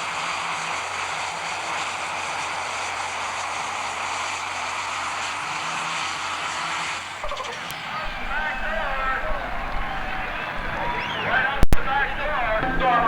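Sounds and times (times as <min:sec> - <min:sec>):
pulling tractor engine running hard: 0:00.0 - 0:13.0.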